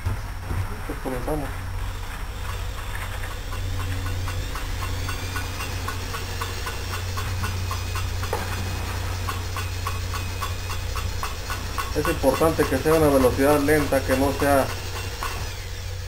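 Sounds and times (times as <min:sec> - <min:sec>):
light regular ticking: 0:01.2 - 0:16.0
electric drill motor hum: 0:01.4 - 0:16.0.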